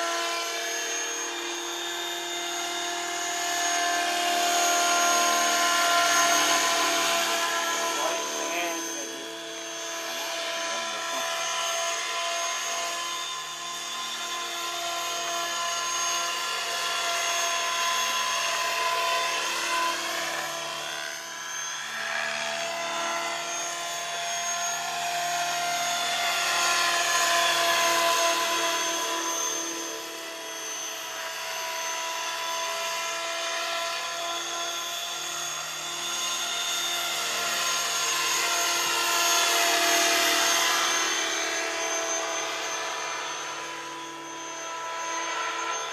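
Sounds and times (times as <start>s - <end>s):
model helicopter whining: 0.0s - 45.9s.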